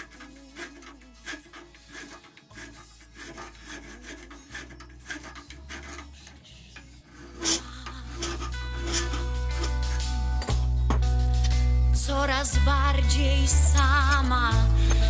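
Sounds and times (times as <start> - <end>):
file scraping steel: 0.0 - 11.7, 13.1 - 15.0
music: 0.0 - 15.0.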